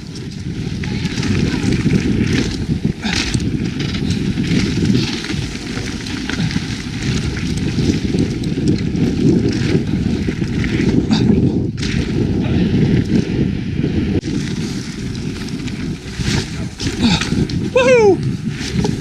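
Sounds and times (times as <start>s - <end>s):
tyres on dirt: 0.0s - 13.4s, 14.2s - 19.0s
bike clicks and rattles: 0.0s - 19.0s
wind on microphone: 0.0s - 19.0s.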